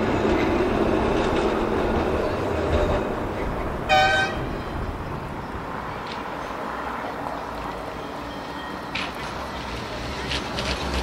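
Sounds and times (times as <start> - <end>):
vehicle running noise: 0.0 - 11.0.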